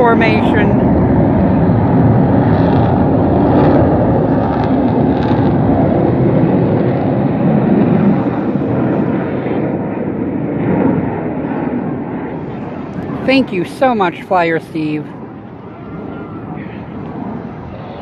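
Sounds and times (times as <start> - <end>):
jet engines flying over: 0.0 - 18.0.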